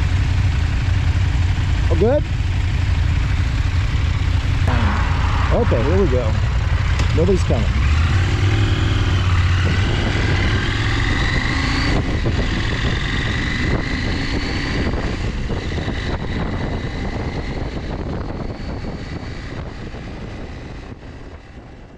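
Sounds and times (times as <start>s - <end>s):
motorcycle engine accelerating: 0.0s - 21.9s
wind rushing over microphone: 3.3s - 21.9s.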